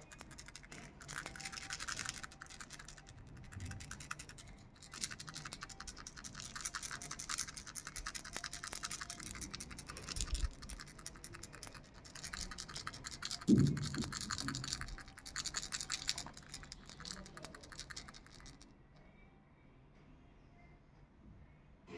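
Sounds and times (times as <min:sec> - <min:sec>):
toy rattle shaking: 0:00.0 - 0:18.7.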